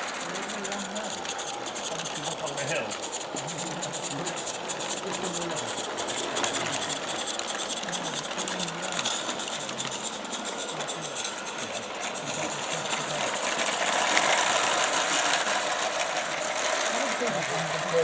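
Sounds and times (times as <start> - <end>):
steam hissing: 0.0 - 18.0
steam locomotive mechanical chatter: 0.0 - 18.0.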